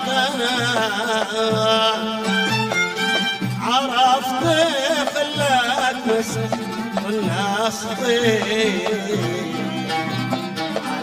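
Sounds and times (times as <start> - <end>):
bowed strings melody: 0.0 - 11.0
low drum beat: 0.0 - 11.0
man singing: 0.0 - 11.0.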